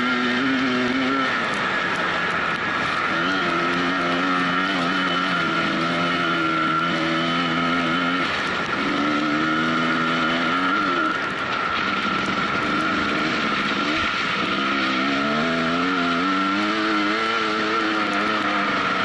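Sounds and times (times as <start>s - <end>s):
dirt bike engine under throttle: 0.0s - 19.0s.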